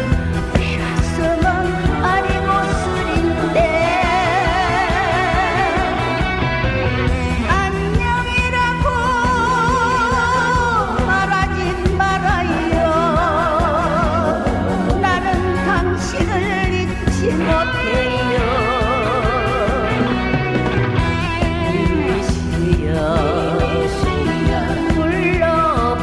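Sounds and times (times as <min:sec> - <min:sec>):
person singing with vibrato: 0:00.0 - 0:20.6, 0:21.4 - 0:26.0
band accompaniment with steady beat: 0:00.0 - 0:26.0.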